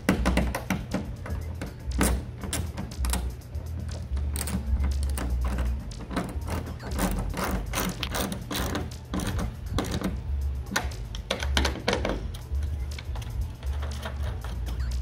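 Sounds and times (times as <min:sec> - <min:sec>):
background music with bass beat: 0:00.0 - 0:15.0.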